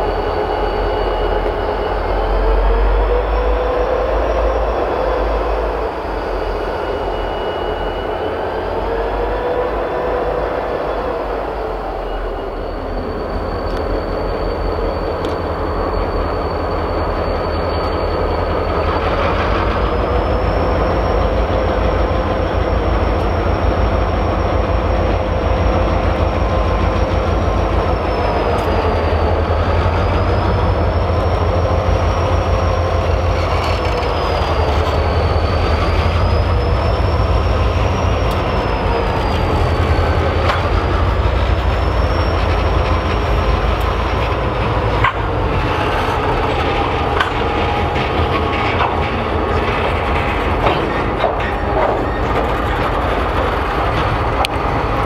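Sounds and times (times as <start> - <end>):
high wheel squeal: 0.0 - 55.0
train wheels rumbling on rail: 0.0 - 55.0.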